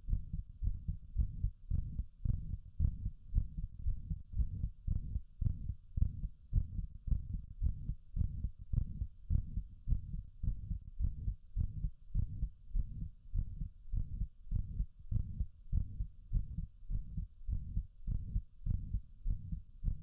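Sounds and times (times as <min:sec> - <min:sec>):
heart beating: 0:00.0 - 0:20.0
heart murmur: 0:00.0 - 0:20.0.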